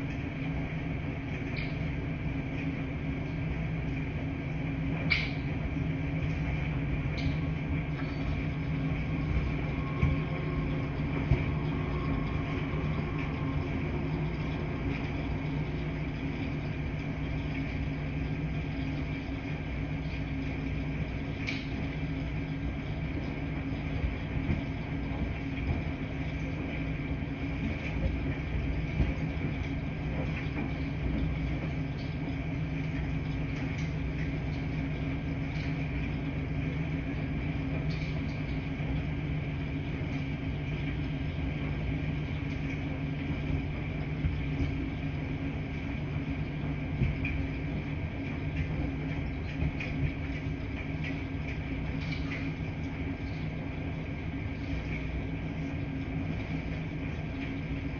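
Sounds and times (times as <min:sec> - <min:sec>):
washing machines humming: 0:00.0 - 0:57.9.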